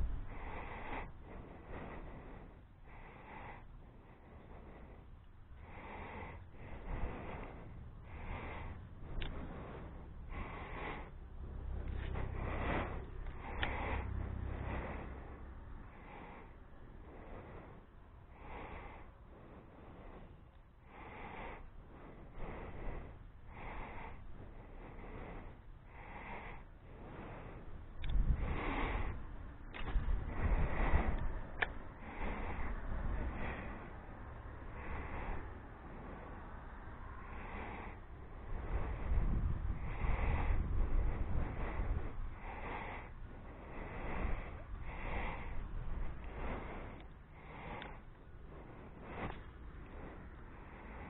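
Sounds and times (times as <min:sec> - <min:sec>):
low rumble: 0:00.0 - 0:51.0
person breathing: 0:00.0 - 0:51.0.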